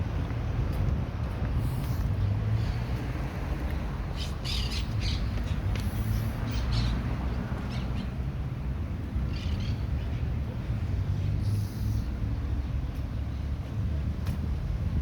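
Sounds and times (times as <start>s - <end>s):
low rumble of street ambience: 0.0s - 15.0s.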